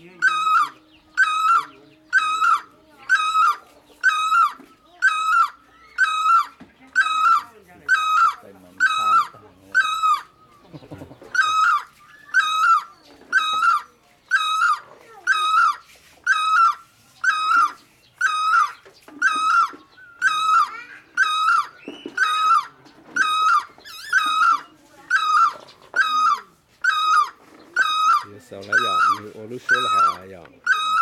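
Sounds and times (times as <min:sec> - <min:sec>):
barbet calling: 0:00.0 - 0:31.0.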